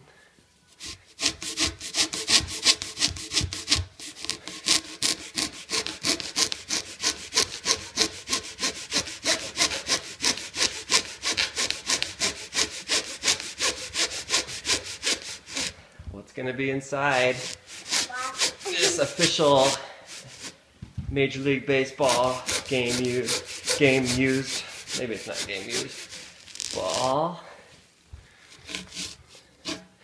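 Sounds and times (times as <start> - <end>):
hand saw cutting: 0.8 - 15.8, 17.1 - 20.6, 22.0 - 27.2, 28.5 - 30.0.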